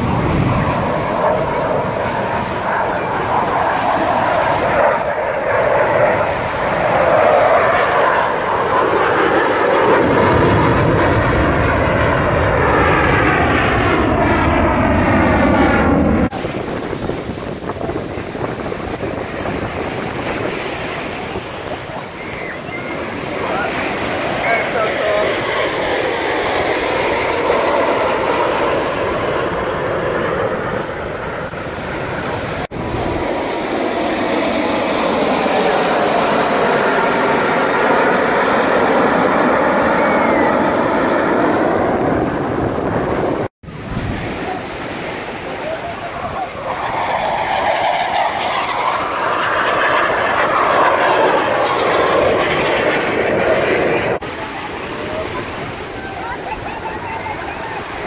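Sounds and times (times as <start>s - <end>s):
jet fighters roaring overhead: 0.0s - 58.0s.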